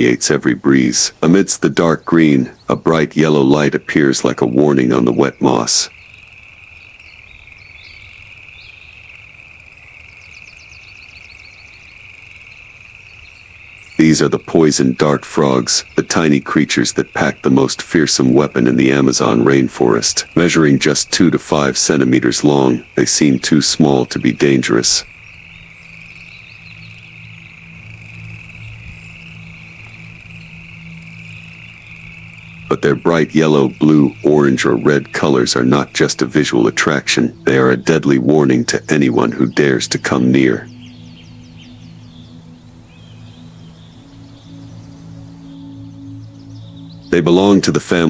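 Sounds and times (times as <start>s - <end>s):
clicking frog calls: 0.0s - 48.0s
frog chirps: 0.0s - 48.0s
high-pitched insect drone: 3.0s - 48.0s.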